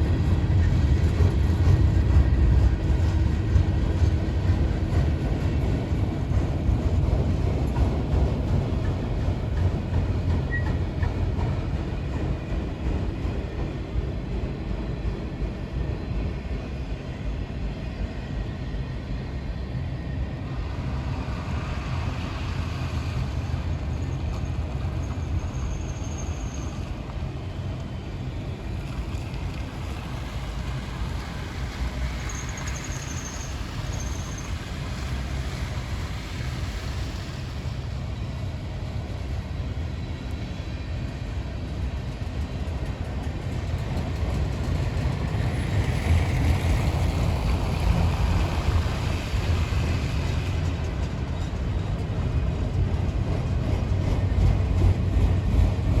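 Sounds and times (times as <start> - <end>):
train rumbling by: 0.0 - 56.0.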